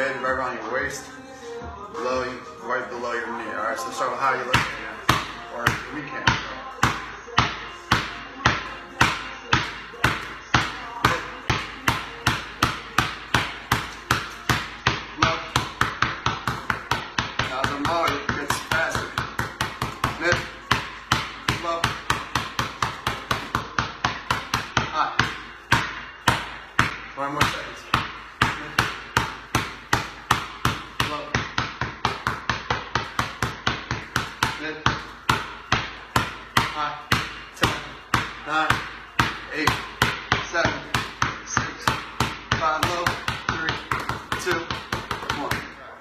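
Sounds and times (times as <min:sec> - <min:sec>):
basketball bouncing on concrete: 0:04.5 - 0:45.8.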